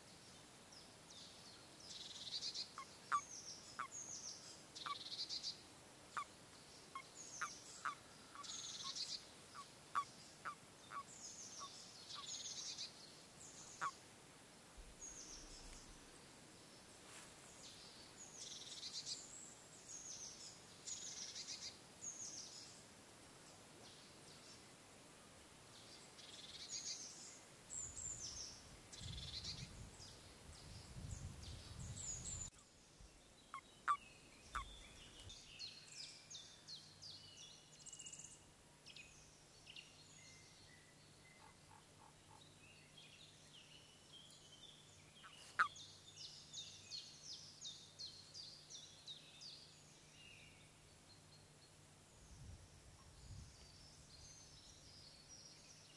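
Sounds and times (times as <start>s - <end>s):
songbird chirps and trills: 0.0s - 14.1s, 14.8s - 24.8s, 25.7s - 55.9s.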